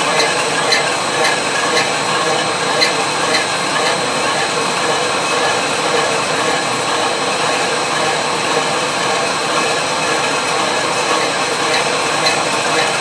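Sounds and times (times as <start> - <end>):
milling machine cutting steel: 0.0 - 13.0.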